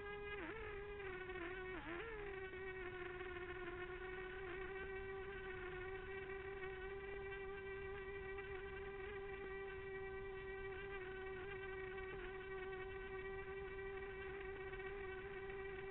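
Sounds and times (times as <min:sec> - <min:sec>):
drone propellers buzzing: 0:00.0 - 0:15.9.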